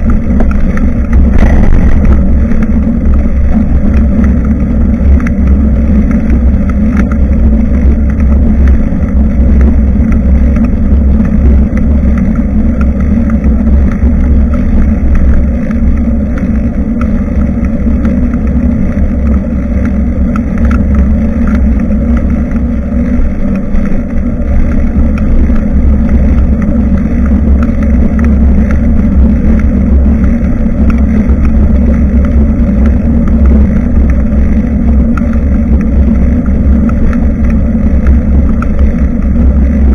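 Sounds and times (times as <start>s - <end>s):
faint ticks: 0.0s - 39.9s
riding vibration rumble: 0.0s - 39.9s
wind buffeting microphone: 0.0s - 39.9s.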